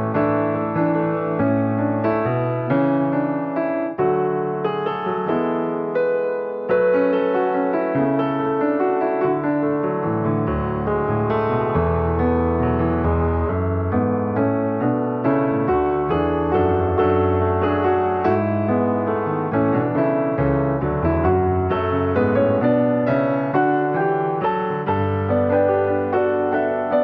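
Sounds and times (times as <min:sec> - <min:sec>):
background piano music: 0:00.0 - 0:27.0.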